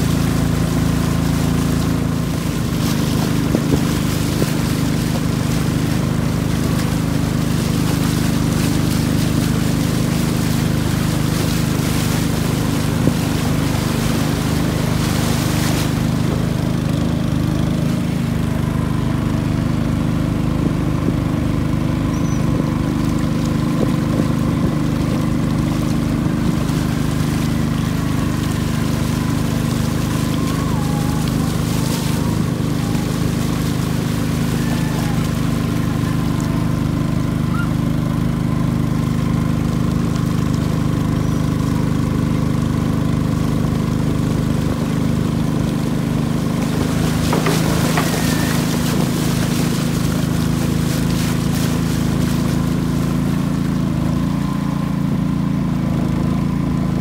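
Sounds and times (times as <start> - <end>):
boat engine running: 0.0 - 57.0
water rushing and splashing: 0.0 - 57.0.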